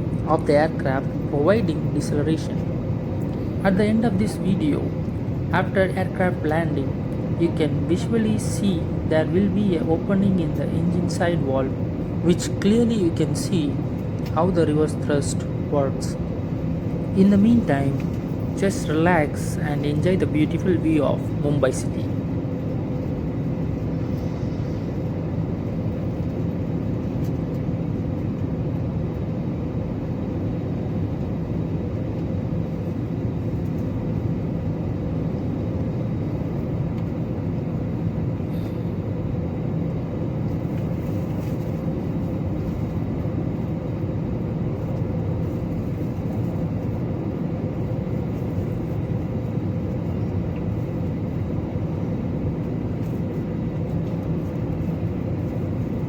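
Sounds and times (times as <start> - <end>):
airliner cabin drone: 0.0 - 56.0
faint steady hum: 0.0 - 56.0.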